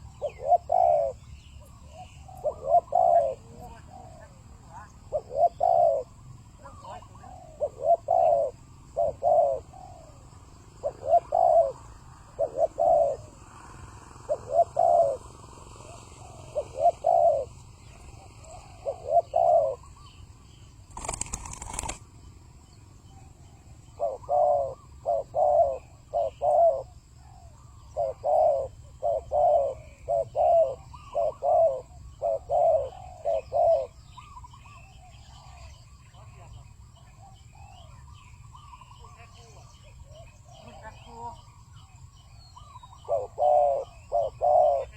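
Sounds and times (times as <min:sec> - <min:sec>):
doves cooing: 0:00.0 - 0:22.0, 0:23.2 - 0:44.9.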